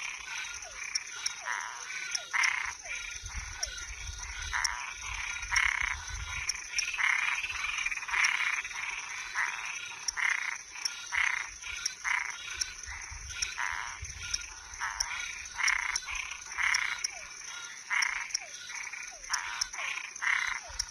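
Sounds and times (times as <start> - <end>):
frogs calling: 0.0 - 20.9
insect trill: 0.0 - 20.9.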